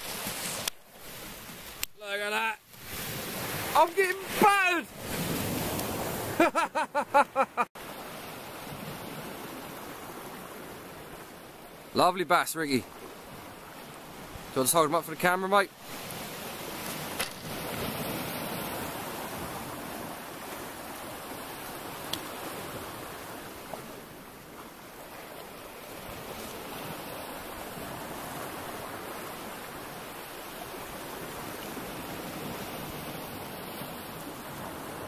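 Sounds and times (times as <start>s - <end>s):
sea surf on beach: 0.0s - 35.0s.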